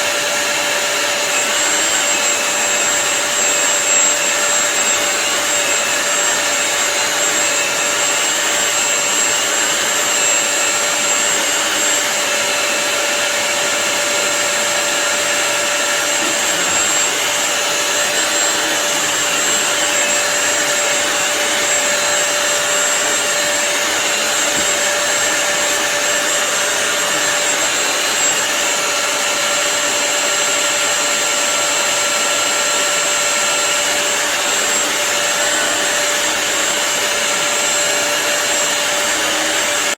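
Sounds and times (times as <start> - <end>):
floor cleaner motor whirring: 0.0 - 39.9.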